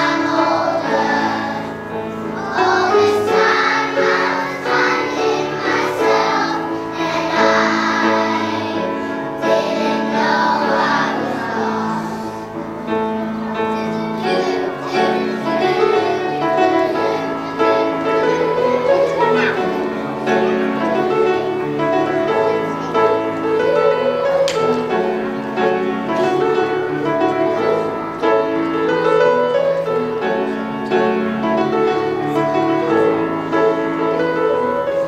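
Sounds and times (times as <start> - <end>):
backing music: 0.0 - 35.0
children's choir singing: 0.0 - 35.0.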